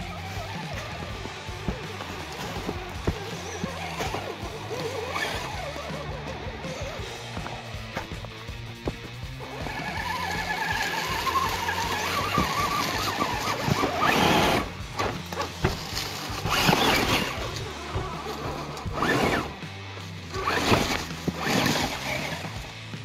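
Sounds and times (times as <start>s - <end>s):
tyres scrabbling over rocks and leaves: 0.0s - 6.1s, 6.7s - 22.6s
electric motor whine: 0.0s - 8.5s, 9.2s - 22.7s.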